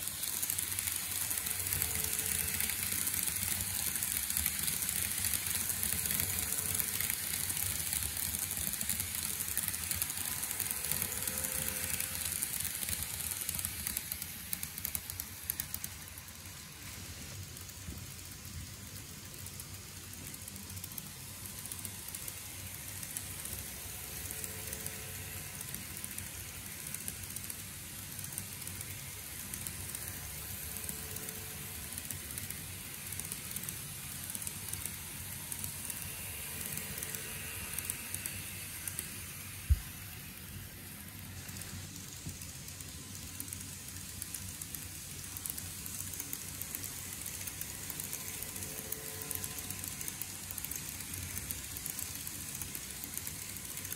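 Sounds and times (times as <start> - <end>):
model train wheels clicking: 0.0 - 53.9.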